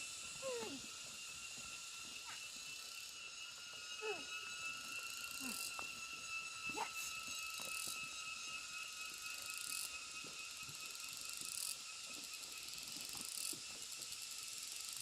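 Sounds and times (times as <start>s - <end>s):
insect high trill: 0.0s - 15.0s
insects buzzing chorus: 0.0s - 15.0s.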